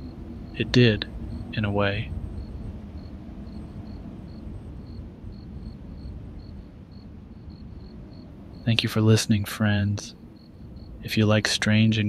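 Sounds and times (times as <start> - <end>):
crickets chirping: 0.0 - 12.0
low steady rumble: 0.0 - 12.0.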